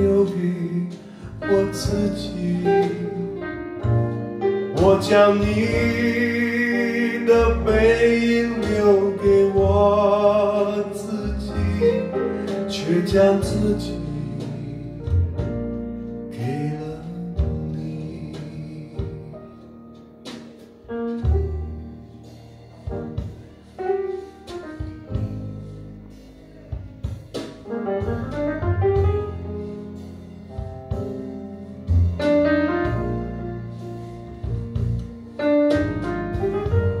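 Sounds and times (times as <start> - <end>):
pop ballad over loudspeakers: 0.0 - 37.0.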